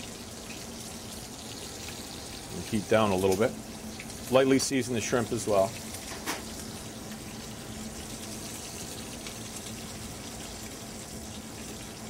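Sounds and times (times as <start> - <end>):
fish and shrimp sizzling in a pan: 0.0 - 12.0.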